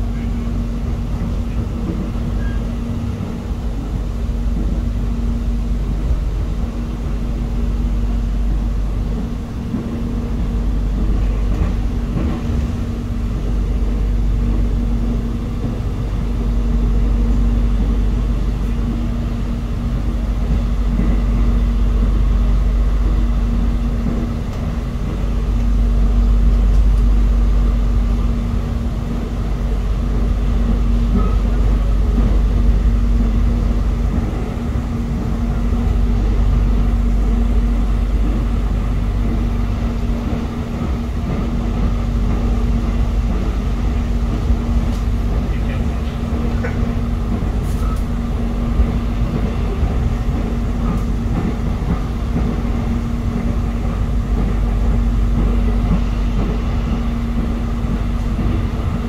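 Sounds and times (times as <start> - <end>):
train low rumble: 0.0 - 59.0.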